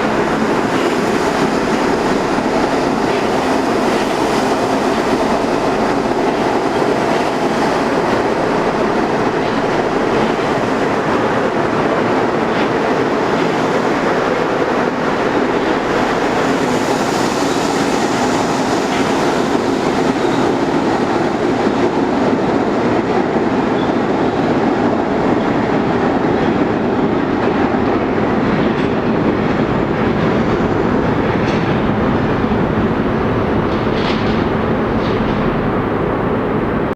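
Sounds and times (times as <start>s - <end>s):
subway train wheel and track noise: 0.0s - 36.9s.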